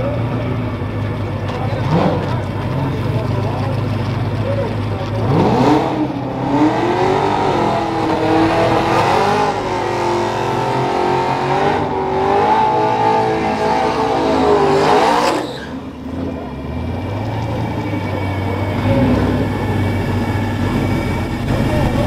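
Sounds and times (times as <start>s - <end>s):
truck engine at high revs: 0.0s - 22.0s.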